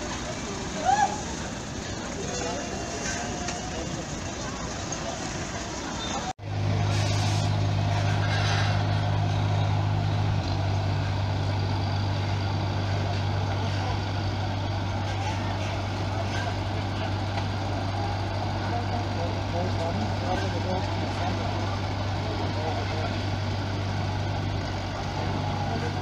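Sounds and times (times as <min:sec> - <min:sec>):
diesel truck engine humming: 0:00.0 - 0:26.0.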